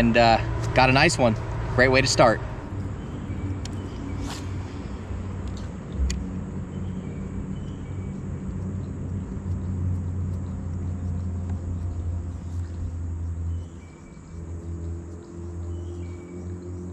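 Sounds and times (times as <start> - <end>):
boat motor humming: 0.0 - 16.9.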